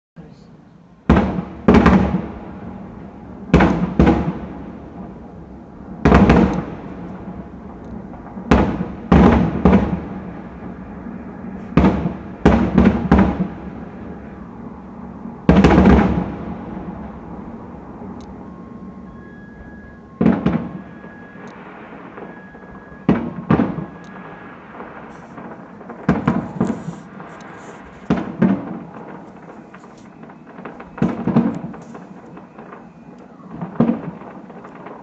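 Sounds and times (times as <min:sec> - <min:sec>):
fireworks shells booming: 0:01.0 - 0:18.4, 0:19.0 - 0:35.0.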